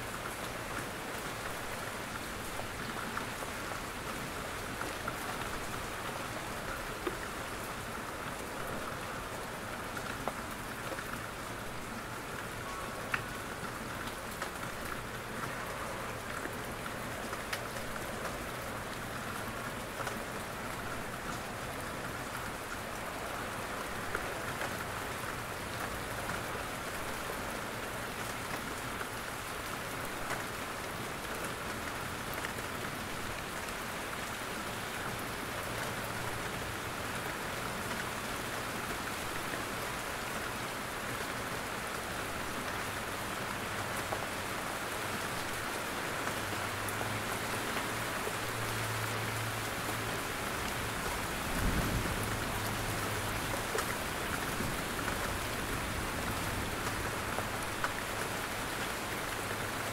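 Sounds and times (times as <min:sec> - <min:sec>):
rain in a forest: 0:00.0 - 0:59.9.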